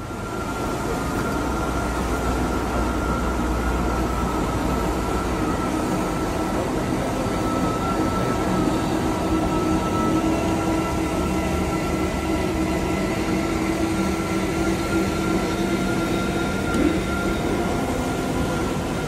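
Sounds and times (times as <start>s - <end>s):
electric locomotive hum and whine: 0.0s - 19.0s.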